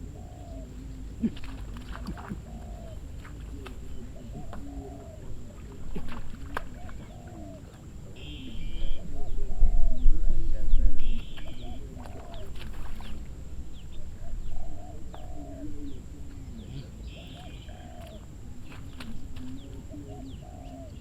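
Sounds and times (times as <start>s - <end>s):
birds chirping: 0.0s - 21.0s
birds cooing and clucking: 0.0s - 21.0s.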